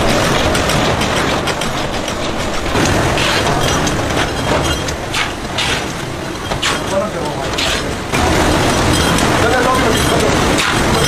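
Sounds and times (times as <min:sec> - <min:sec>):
machinery clattering and clicking: 0:00.0 - 0:11.0.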